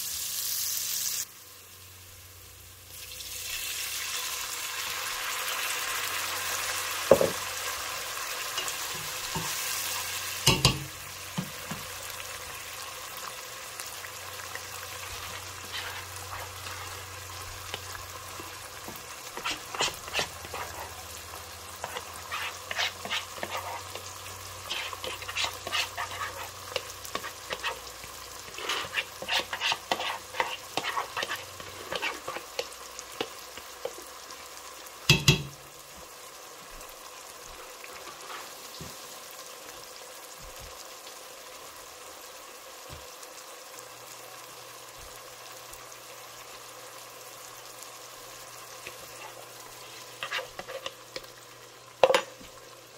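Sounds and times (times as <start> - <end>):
onions sizzling in hot oil: 0.0 - 52.9.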